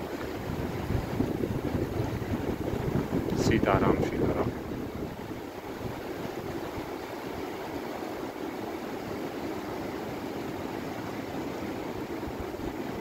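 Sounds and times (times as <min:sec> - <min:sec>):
meltwater torrent rushing: 0:00.0 - 0:13.0.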